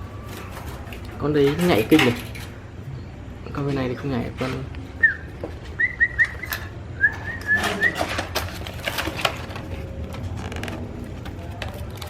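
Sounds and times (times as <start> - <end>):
birds hopping in wire cages: 0.0 - 12.0.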